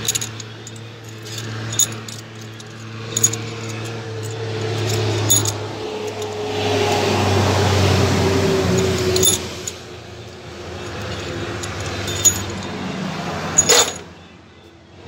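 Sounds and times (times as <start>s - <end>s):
loose metal parts clinking: 0.0s - 14.2s.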